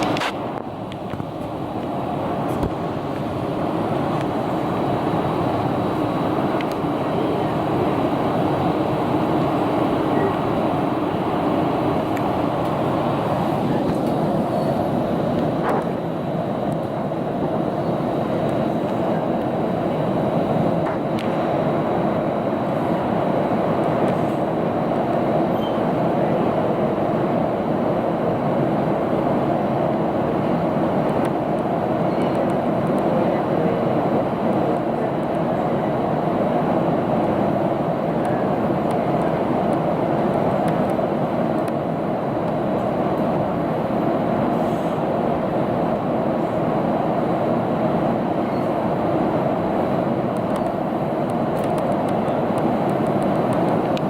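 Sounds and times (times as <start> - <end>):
train rumble: 0.0 - 54.0
faint high whine: 1.4 - 54.0.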